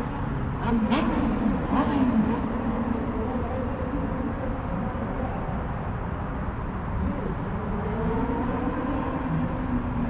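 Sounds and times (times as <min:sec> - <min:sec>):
city background rumble: 0:00.0 - 0:10.0.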